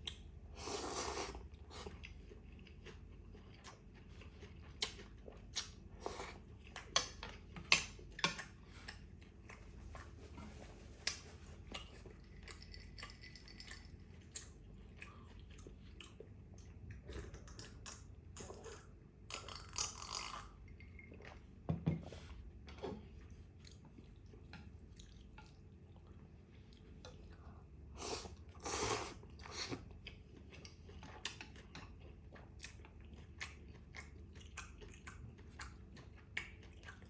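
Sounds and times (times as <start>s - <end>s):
close chewing: 0.9s - 18.9s, 23.5s - 37.0s.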